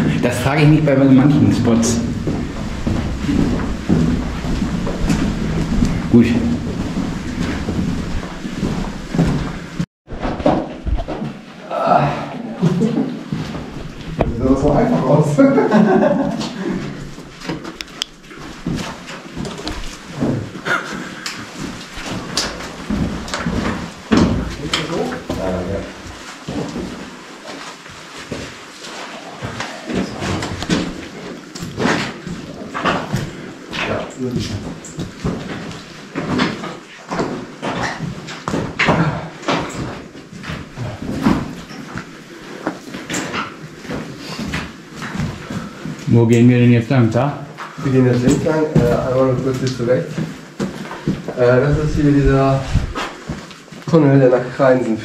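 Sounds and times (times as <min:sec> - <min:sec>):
footsteps on wet stony floor: 0:00.3 - 0:09.9, 0:16.3 - 0:46.2, 0:47.5 - 0:54.1.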